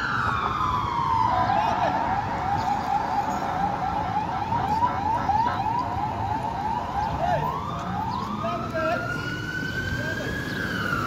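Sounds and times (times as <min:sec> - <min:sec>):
low traffic rumble: 0:00.0 - 0:11.0
police siren yelp and wail: 0:00.0 - 0:11.0.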